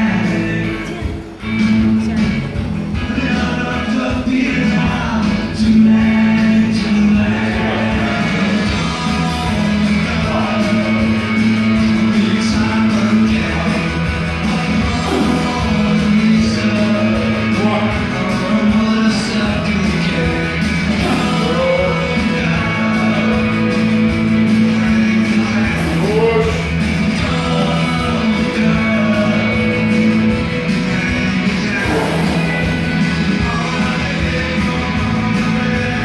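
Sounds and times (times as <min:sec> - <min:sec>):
rock song with singing: 0:00.0 - 0:36.0.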